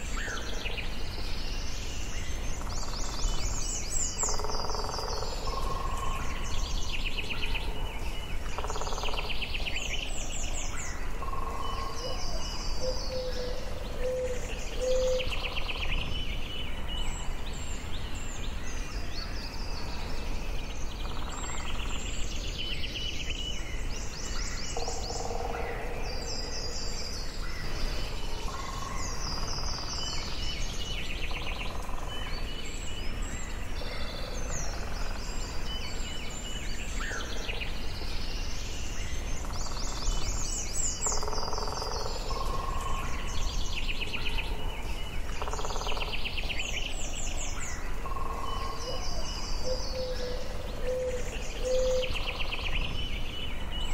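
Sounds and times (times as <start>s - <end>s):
birds calling and trilling: 0.0s - 53.9s.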